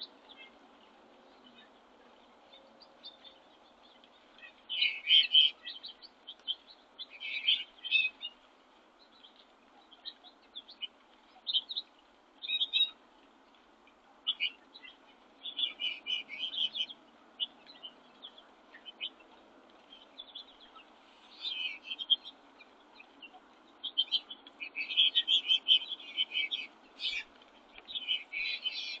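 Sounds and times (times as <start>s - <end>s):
faint background hiss: 0.0s - 29.0s
songbirds chirping: 0.0s - 29.0s.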